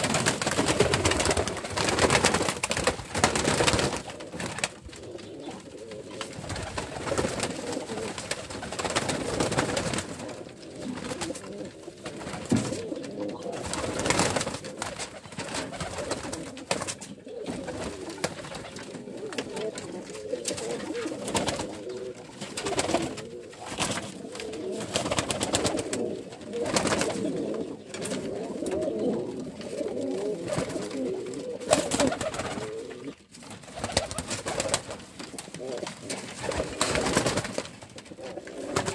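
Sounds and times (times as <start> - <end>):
wing flapping: 0.0 - 12.9, 13.6 - 28.7, 30.4 - 38.9
pigeons cooing: 0.0 - 38.9.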